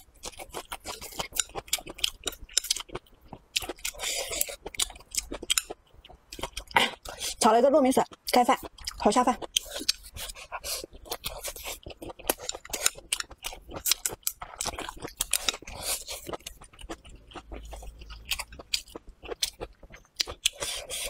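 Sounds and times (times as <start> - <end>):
wet chewing clicks and smacks: 0.0 - 7.4, 8.0 - 21.0.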